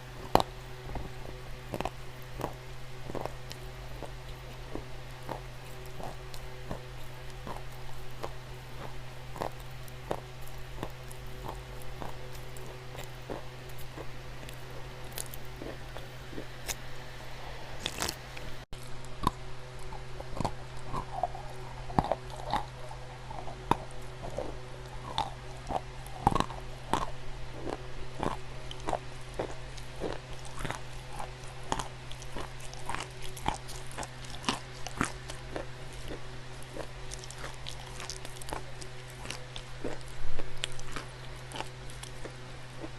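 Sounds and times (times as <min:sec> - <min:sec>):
dry clay crunching: 0:00.0 - 0:17.2, 0:17.8 - 0:42.9.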